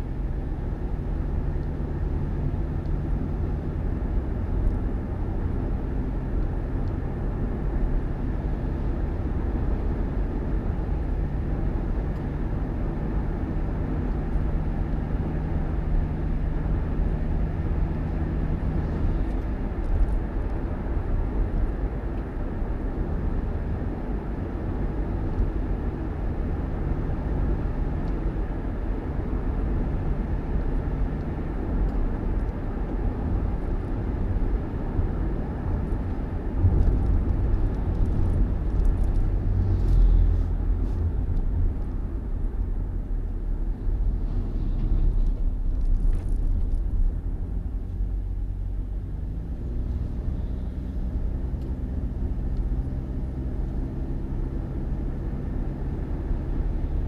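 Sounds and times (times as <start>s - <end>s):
constant low hum: 0.0s - 57.0s
vehicle engine and road noise: 0.0s - 57.0s.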